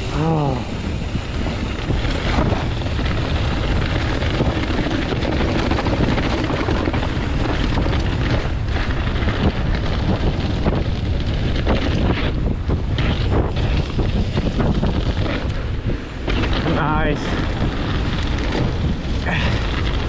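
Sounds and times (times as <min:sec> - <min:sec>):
tyre noise on dirt: 0:00.0 - 0:20.0
wind buffeting microphone: 0:00.0 - 0:20.0
bike knocks and rattles: 0:01.4 - 0:20.0.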